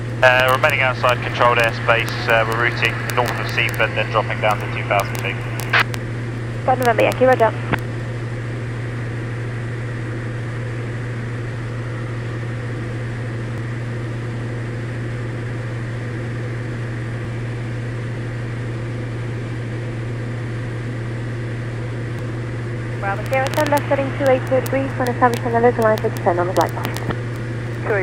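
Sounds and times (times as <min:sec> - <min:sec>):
aircraft engine droning in cabin: 0:00.0 - 0:28.0.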